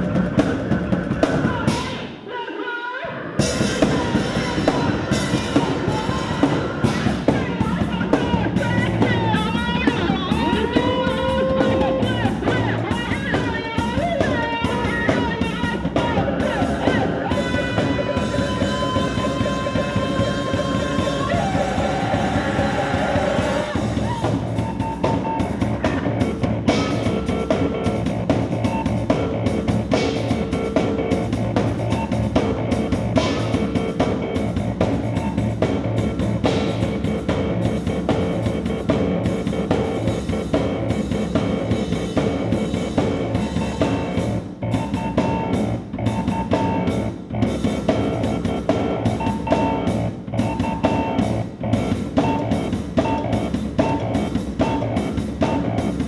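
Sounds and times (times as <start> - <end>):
drum kit playing: 0.0 - 2.2, 3.4 - 56.0
amplified electronic tones: 3.4 - 56.0.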